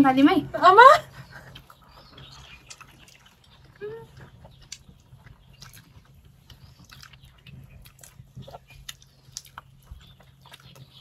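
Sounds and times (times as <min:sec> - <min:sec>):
people chewing food: 0:01.0 - 0:11.0
mouth smacks and clicks: 0:01.5 - 0:11.0.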